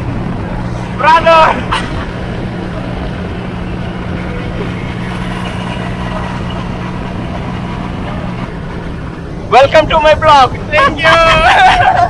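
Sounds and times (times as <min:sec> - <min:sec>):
tractor engine running: 0:00.0 - 0:11.2.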